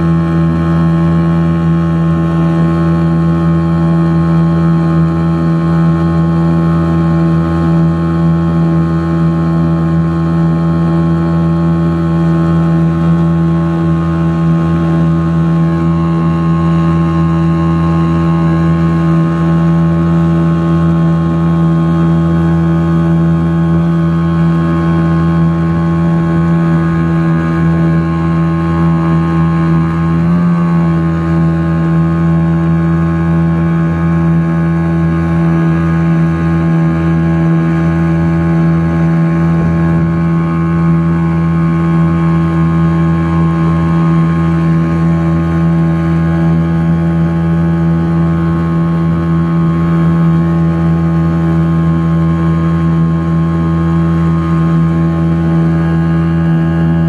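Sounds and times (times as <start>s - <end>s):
outboard motor droning: 0.0s - 57.0s.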